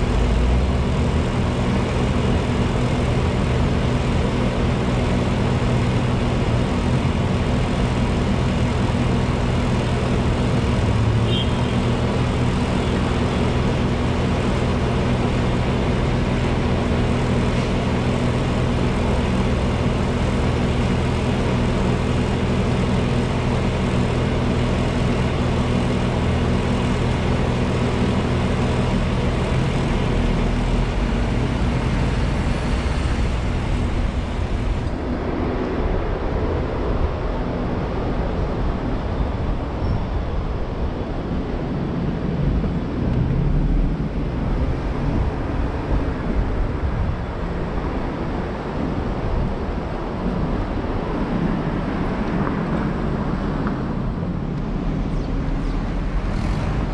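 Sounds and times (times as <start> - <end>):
low engine hum: 0.0 - 56.9
road traffic noise: 0.0 - 56.9.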